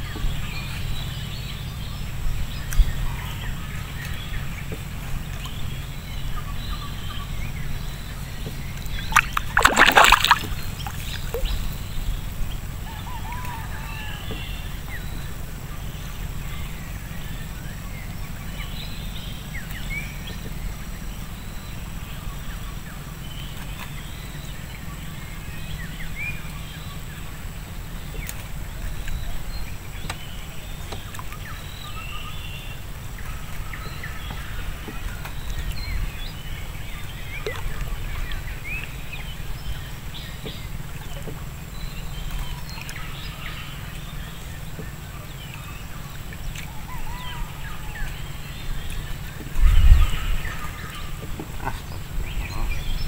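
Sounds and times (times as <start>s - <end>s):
bird calls: 0.0s - 53.0s
water lapping against a boat: 0.0s - 53.0s
low rumble: 10.2s - 53.0s.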